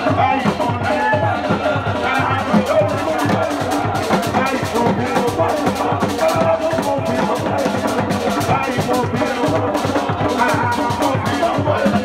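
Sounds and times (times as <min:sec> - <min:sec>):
person singing a chant: 0:00.0 - 0:12.0
steady drum beat: 0:00.0 - 0:12.0.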